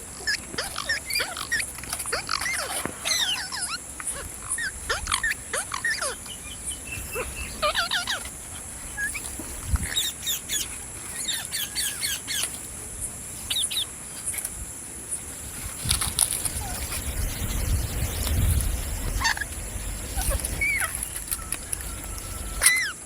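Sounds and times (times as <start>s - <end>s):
parrot chirping: 0.1s - 12.6s, 16.4s - 23.0s.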